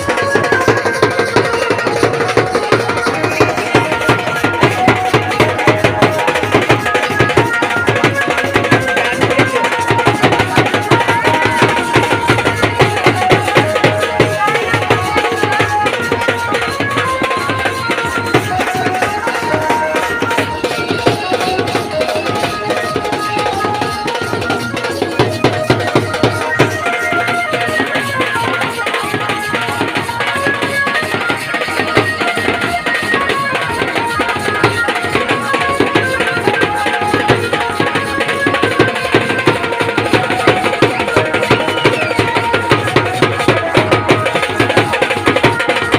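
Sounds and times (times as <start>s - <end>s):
fast tabla and drum rhythm: 0.0s - 45.9s.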